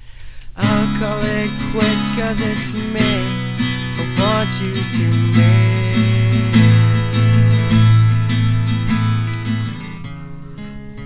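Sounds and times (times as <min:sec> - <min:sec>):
strummed acoustic guitar chords: 0:00.6 - 0:11.0.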